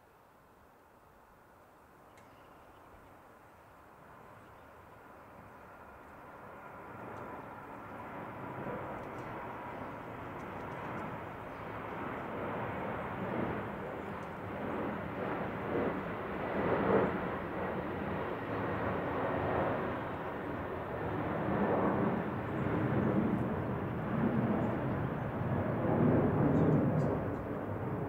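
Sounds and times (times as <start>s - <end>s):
distant jet rumble: 2.8s - 28.0s.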